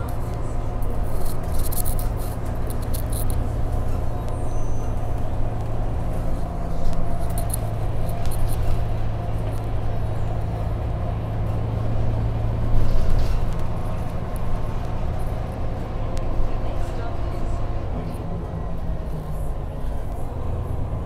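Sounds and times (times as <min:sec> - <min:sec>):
bus diesel engine droning: 0:00.0 - 0:21.0.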